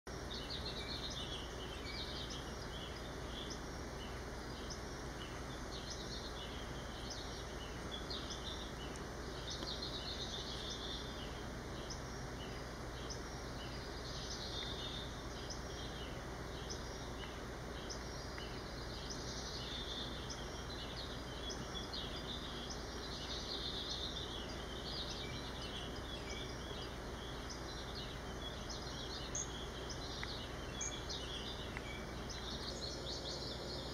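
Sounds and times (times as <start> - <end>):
steady background hiss: 0.1 - 33.9
high thin chirping calls: 0.2 - 33.9.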